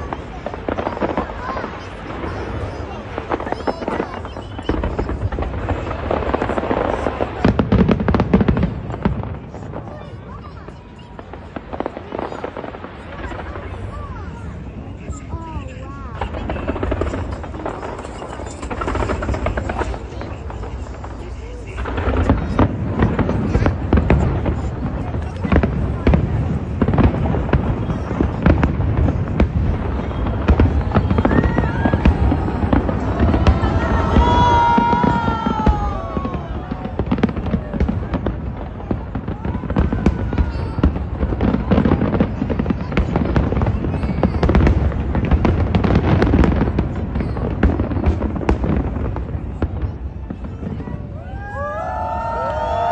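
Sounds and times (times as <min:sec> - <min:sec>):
fireworks bangs: 0:00.0 - 0:52.9
low rumble of fireworks: 0:00.0 - 0:52.9.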